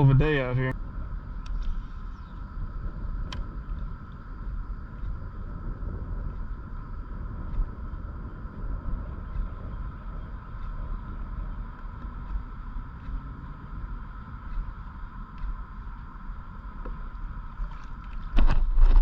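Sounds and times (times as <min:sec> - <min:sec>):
steady high hum: 0:00.0 - 0:19.0
wind buffeting microphone: 0:00.0 - 0:19.0
faint ticks: 0:02.9 - 0:19.0.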